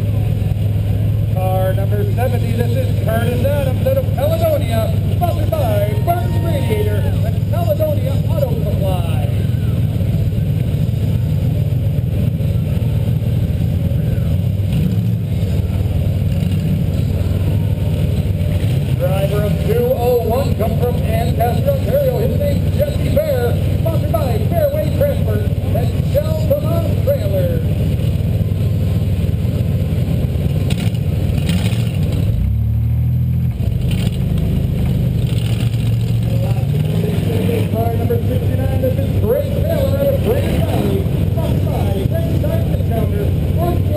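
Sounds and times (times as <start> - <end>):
car engine running: 0.0 - 43.9.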